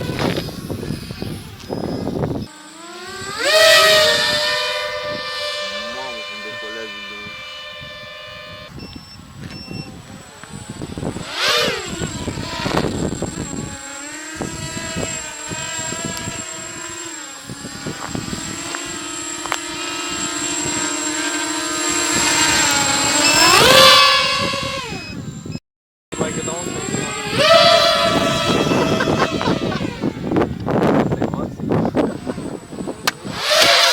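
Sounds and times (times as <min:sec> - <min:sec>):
drone motors whining: 0:00.0 - 0:25.6, 0:26.2 - 0:33.9.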